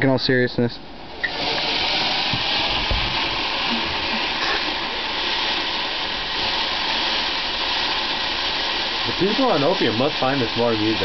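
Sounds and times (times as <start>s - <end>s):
firework fountain hissing: 0.2s - 11.0s.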